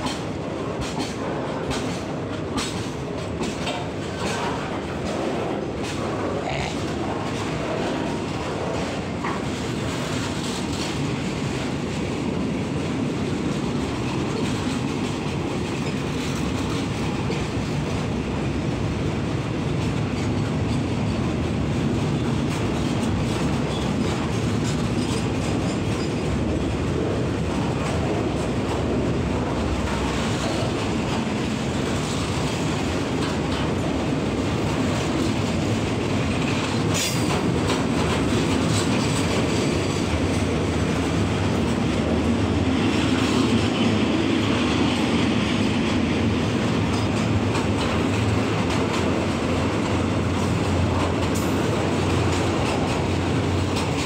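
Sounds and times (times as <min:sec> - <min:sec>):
clacking over rail joints: 0:00.0 - 0:54.0
train wheels rumbling on rail: 0:00.0 - 0:54.0.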